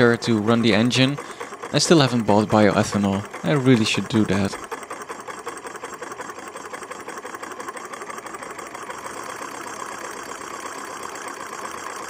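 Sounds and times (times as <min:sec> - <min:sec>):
small engine metal clatter: 0:00.0 - 0:12.0.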